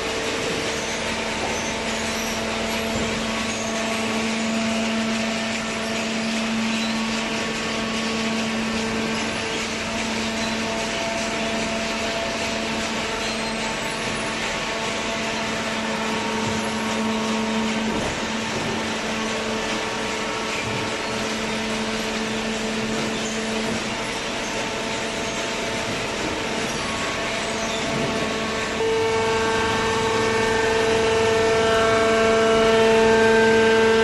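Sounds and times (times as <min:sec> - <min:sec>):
baling press machine hum: 0:00.0 - 0:34.0.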